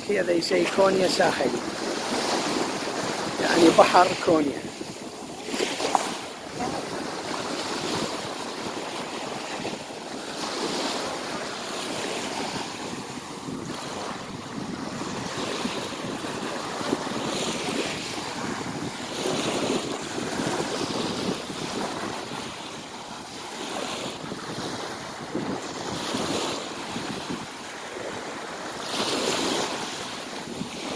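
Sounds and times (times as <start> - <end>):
wind buffeting microphone: 0.0 - 28.2
waves breaking on pebble shore: 0.0 - 30.9.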